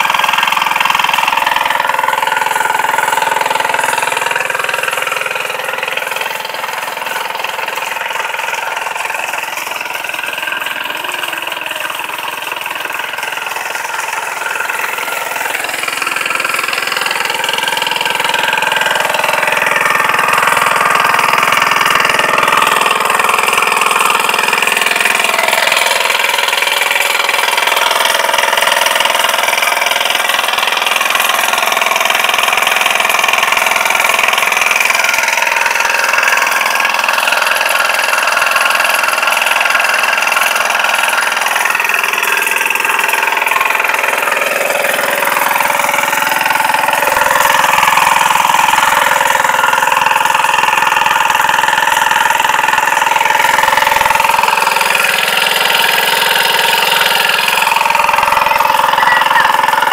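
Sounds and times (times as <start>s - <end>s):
motorcycle engine running steadily: 0.0s - 59.9s.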